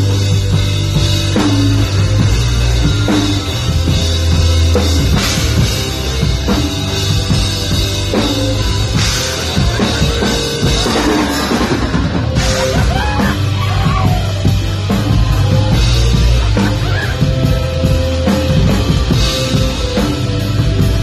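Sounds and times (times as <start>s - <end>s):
distorted bass guitar: 0.0s - 21.0s
drum kit with cymbals: 0.0s - 21.0s
extra percussion drums: 0.0s - 21.0s.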